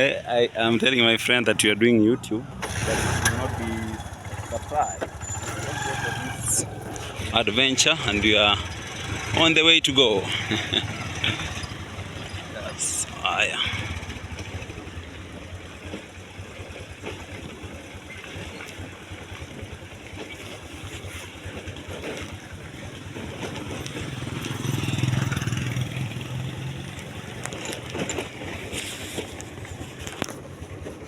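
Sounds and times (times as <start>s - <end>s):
motorcycle engine running: 2.6s - 31.0s.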